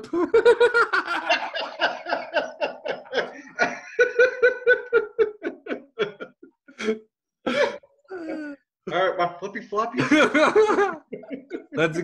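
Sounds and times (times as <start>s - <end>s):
men laughing: 0.0s - 8.5s, 9.9s - 12.0s.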